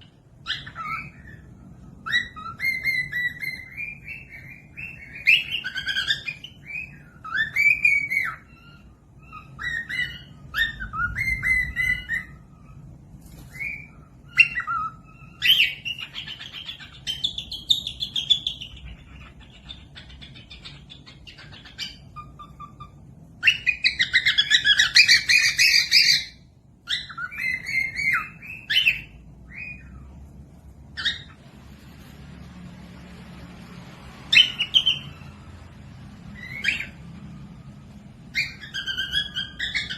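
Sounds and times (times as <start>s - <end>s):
cockatiel chirping and whistling: 0.0s - 30.3s, 30.9s - 31.5s, 34.3s - 35.4s, 36.2s - 37.4s, 38.2s - 39.9s.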